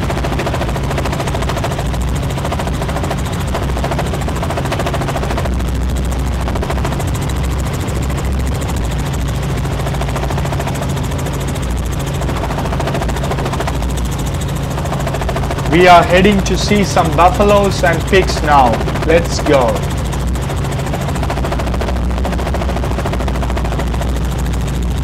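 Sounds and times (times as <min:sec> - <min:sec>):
helicopter rotor beating: 0:00.0 - 0:25.0
piston engine drone: 0:00.0 - 0:25.0.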